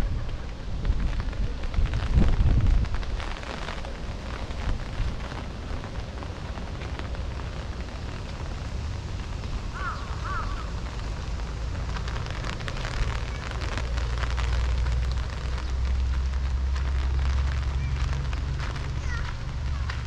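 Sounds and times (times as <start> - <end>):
low rumble: 0.0 - 20.0
rain drops crackling: 0.0 - 20.0.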